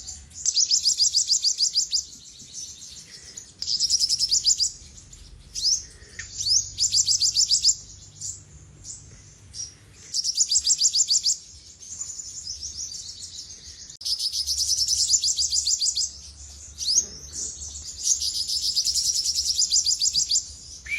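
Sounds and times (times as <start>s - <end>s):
bird singing high rapid trills: 0.0s - 20.9s.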